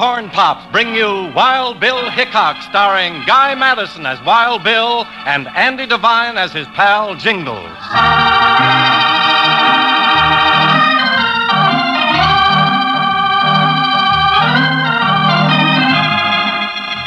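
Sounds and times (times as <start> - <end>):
organ music on old radio: 0.0 - 17.0.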